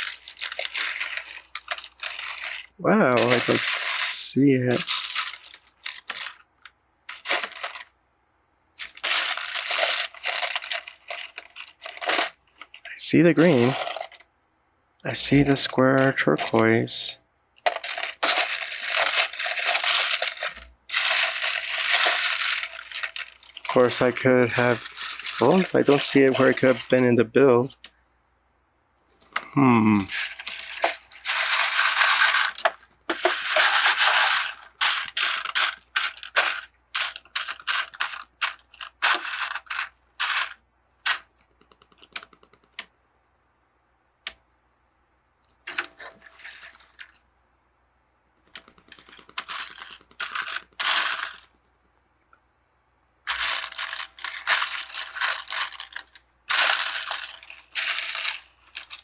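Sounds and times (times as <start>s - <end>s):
plastic pieces clattering: 0.0s - 7.9s, 8.8s - 14.2s, 15.1s - 27.8s, 29.2s - 42.9s, 45.6s - 47.2s, 48.4s - 51.6s, 53.3s - 59.0s.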